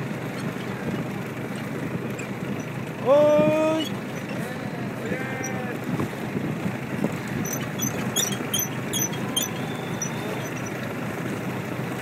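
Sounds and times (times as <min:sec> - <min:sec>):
water rushing along boat: 0:00.0 - 0:12.0
wind buffeting microphone: 0:00.0 - 0:12.0.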